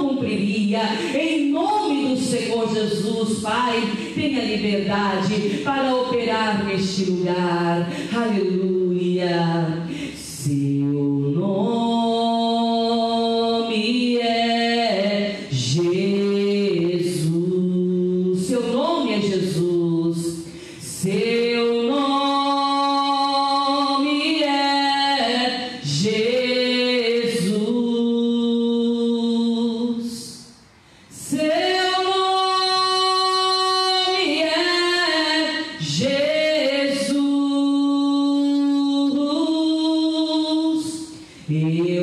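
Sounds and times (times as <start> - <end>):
woman singing unaccompanied: 0.0 - 30.5, 31.2 - 42.0.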